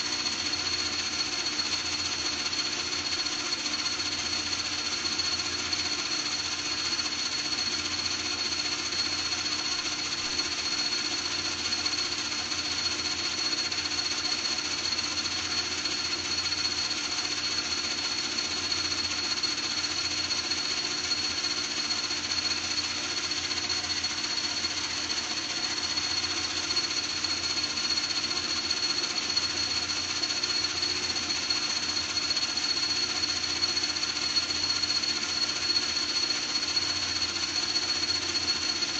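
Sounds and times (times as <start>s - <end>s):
small electric motor whining: 0.0s - 38.9s.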